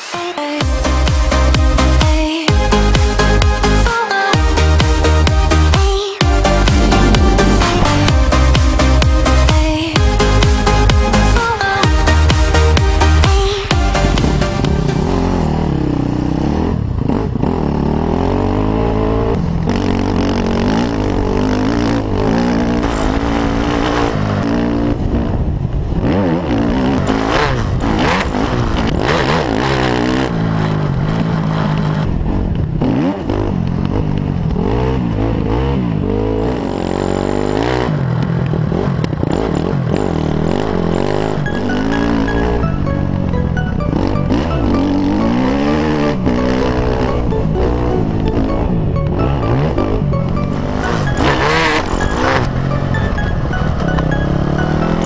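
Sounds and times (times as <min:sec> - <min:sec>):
dirt bike engine revving: 0:04.5 - 0:55.0.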